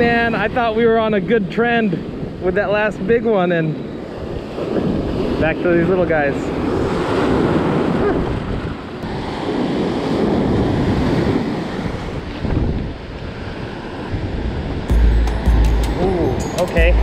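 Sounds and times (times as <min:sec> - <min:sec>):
wind buffeting microphone: 0:00.0 - 0:15.0
ocean surf breaking: 0:00.0 - 0:17.0.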